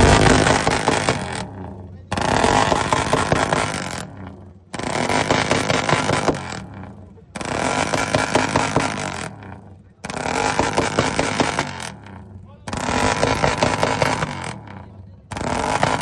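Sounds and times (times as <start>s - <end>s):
exhaust crackling: 0.0s - 16.0s
motorcycle revving: 0.0s - 16.0s.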